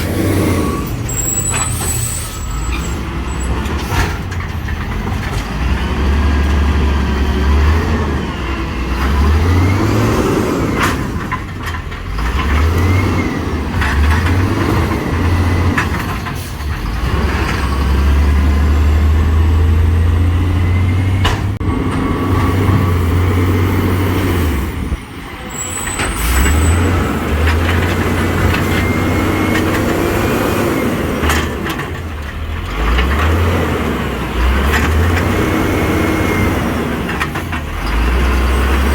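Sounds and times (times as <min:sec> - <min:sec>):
garbage truck diesel engine revving: 0:00.0 - 0:38.9.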